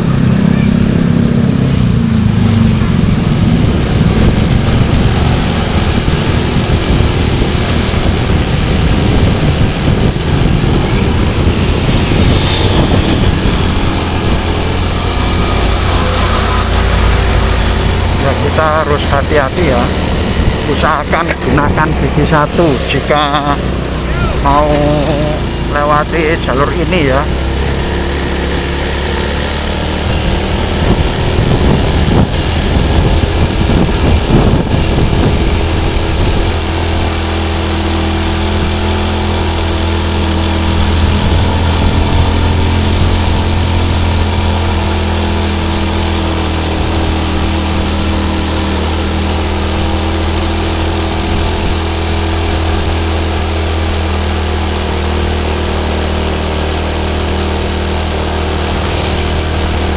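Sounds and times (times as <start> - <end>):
wind noise on microphone: 0.0 - 25.8, 27.0 - 59.9
small motorcycle engine running: 0.0 - 59.9.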